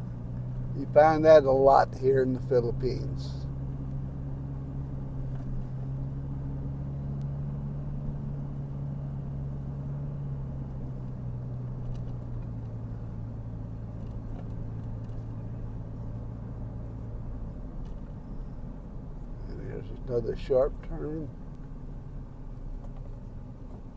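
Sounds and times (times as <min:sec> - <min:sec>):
car engine and tyre drone: 0:00.0 - 0:23.9.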